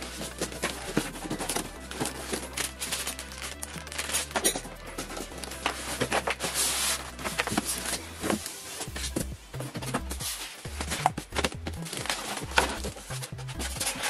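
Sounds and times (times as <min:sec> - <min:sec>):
background music with bass line: 0:00.0 - 0:14.0
cardboard box rustling: 0:00.0 - 0:14.0.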